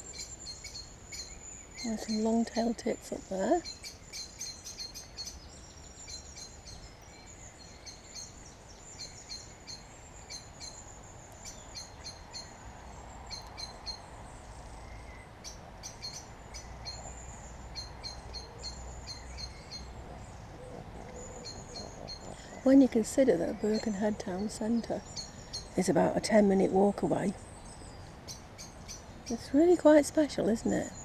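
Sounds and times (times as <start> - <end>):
small birds calling: 0.0 - 31.0.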